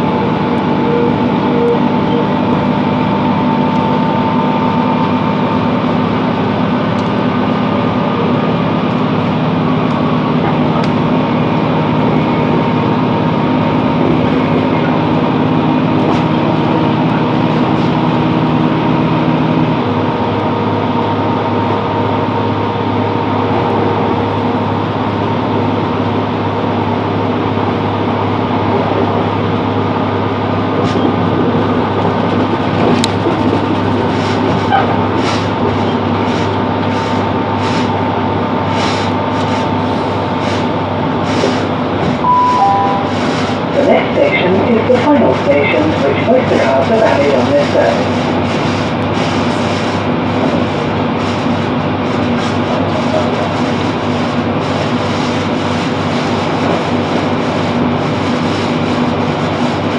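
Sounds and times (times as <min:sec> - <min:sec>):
train diesel engine hum: 0:00.0 - 0:59.9.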